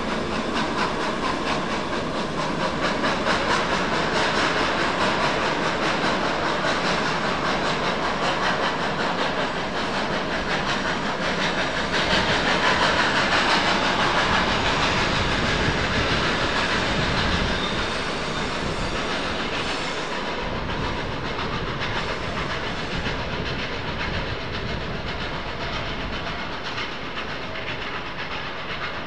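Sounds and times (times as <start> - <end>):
train wheels clattering on rails: 0.0 - 29.0.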